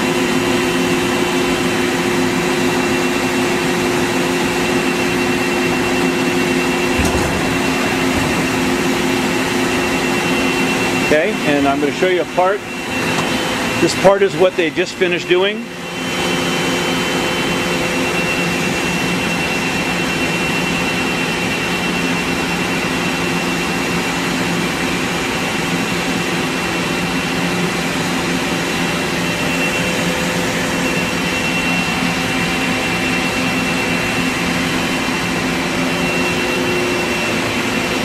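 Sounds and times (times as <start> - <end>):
laser cutter machinery drone: 0.0 - 38.0.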